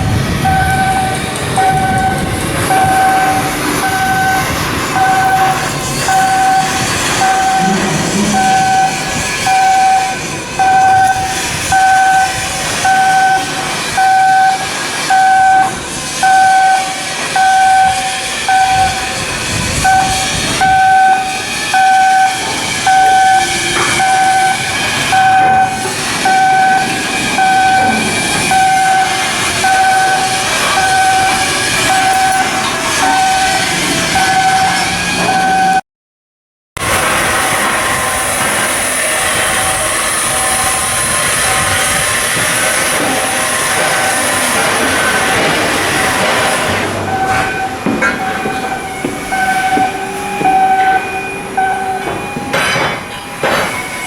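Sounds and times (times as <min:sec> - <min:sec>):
machinery noise and hiss: 0:00.0 - 0:35.7, 0:36.8 - 0:54.0
electronic warning beeps: 0:00.4 - 0:19.1, 0:19.8 - 0:35.8, 0:44.6 - 0:54.0.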